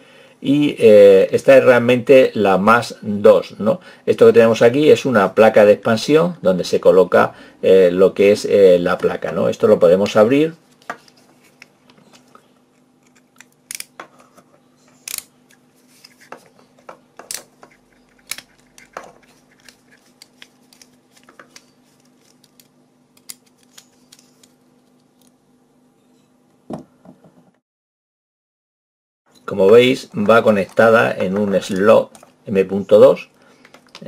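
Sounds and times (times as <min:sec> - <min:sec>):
faint steady hum: 0:00.0 - 0:27.6, 0:29.3 - 0:34.0.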